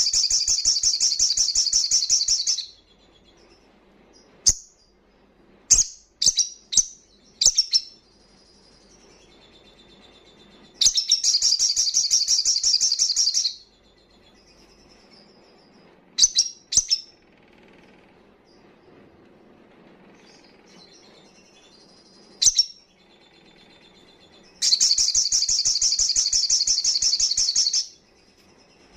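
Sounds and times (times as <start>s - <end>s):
bird chirps and trill: 0.0s - 5.0s, 5.7s - 17.2s, 20.2s - 28.9s.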